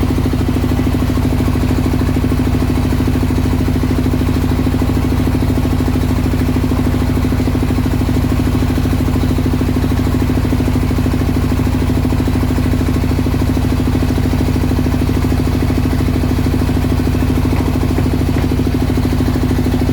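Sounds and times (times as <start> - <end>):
single-cylinder engine running: 0.0 - 19.9.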